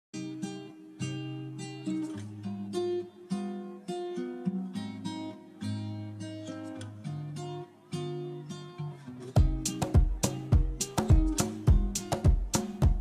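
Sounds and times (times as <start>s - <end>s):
acoustic guitar plucked notes: 0.2s - 13.0s.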